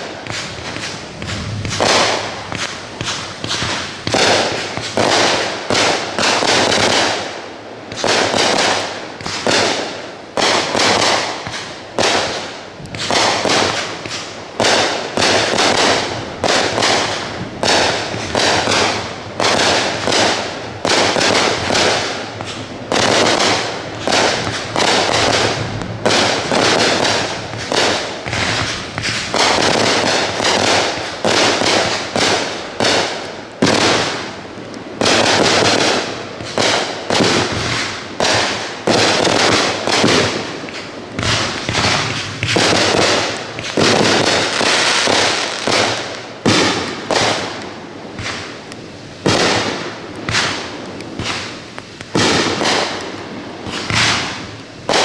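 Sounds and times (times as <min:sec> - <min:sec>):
firework crackling: 0:00.0 - 0:55.0
firework shells bursting: 0:00.0 - 0:55.0.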